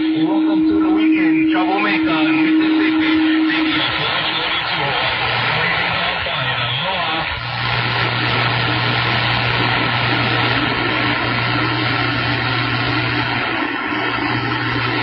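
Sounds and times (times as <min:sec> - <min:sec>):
low hum: 0:00.0 - 0:15.0
radio static hiss: 0:00.0 - 0:15.0.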